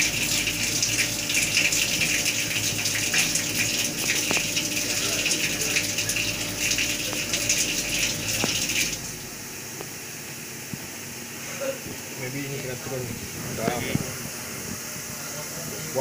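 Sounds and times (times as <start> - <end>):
coolant spray hissing: 0.0 - 16.0
milling machine hum: 0.0 - 16.0.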